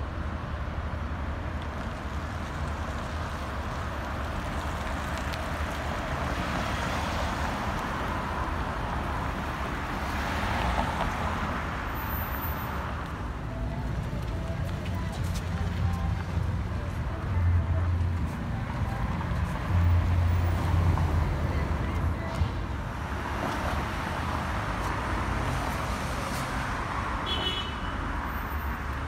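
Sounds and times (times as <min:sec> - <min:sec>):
city traffic rumble: 0:00.0 - 0:29.0
vehicles passing close: 0:00.0 - 0:29.0.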